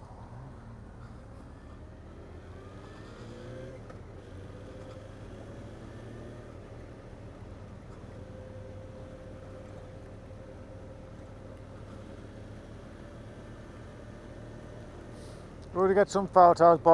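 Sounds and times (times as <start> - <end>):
motorcycle engine accelerating: 0.0 - 15.5.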